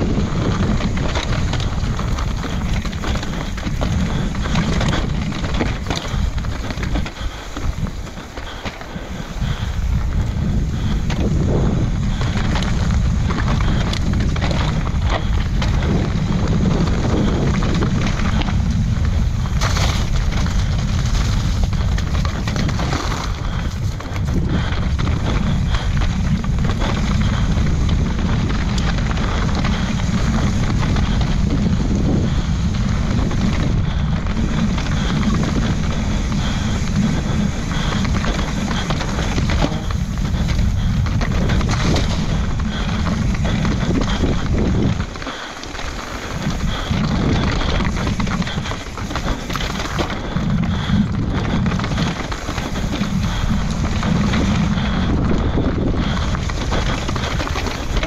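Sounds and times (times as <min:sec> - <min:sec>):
bike tyres rattling on dirt trail: 0:00.0 - 0:58.0
wind buffeting microphone: 0:00.0 - 0:58.0.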